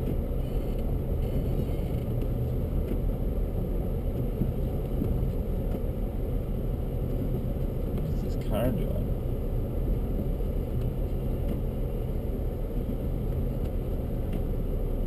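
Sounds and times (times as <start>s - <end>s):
car engine rumble: 0.0s - 15.0s
tyres on snowy road: 0.0s - 15.0s.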